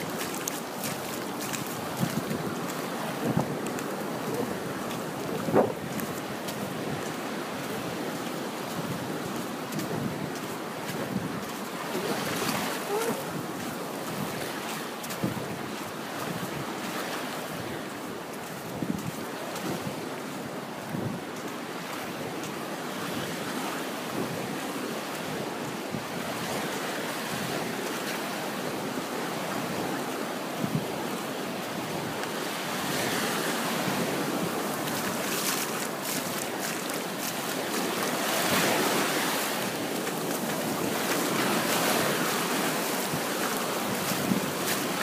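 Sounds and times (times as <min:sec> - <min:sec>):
wind on microphone: 0:00.0 - 0:17.9, 0:18.5 - 0:21.4, 0:23.0 - 0:31.0, 0:31.7 - 0:45.0
small waves on a sandy beach: 0:00.0 - 0:45.0.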